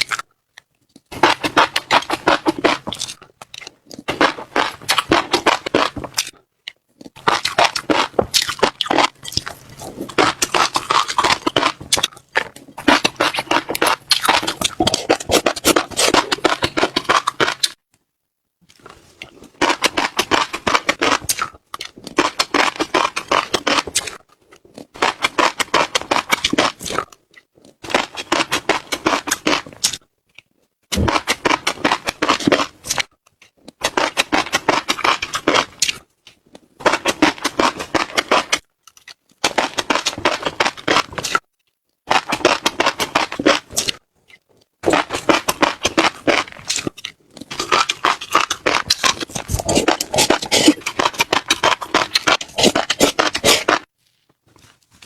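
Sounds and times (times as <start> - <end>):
crunching seeds: 0.0 - 17.8, 18.7 - 41.5, 42.1 - 55.0.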